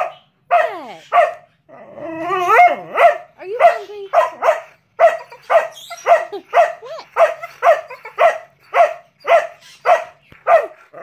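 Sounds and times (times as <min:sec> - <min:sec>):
dog barking: 0:00.0 - 0:01.5, 0:02.4 - 0:11.0.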